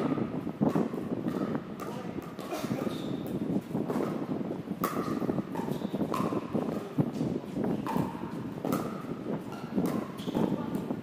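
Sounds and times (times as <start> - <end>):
low court background noise: 0.0 - 11.0.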